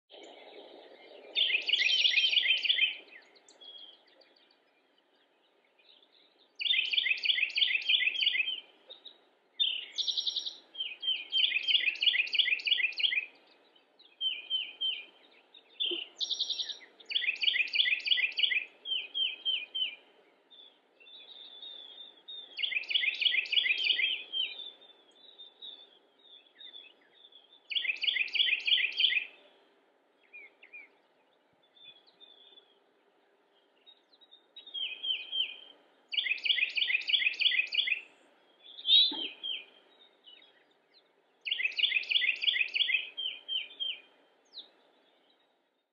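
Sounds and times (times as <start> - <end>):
wren singing rolling notes: 0.1 - 45.8.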